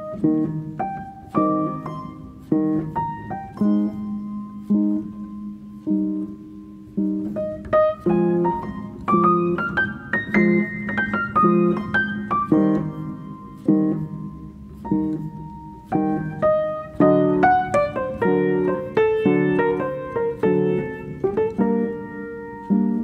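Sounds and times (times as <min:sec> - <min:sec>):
keyboard chords: 0:00.0 - 0:23.0.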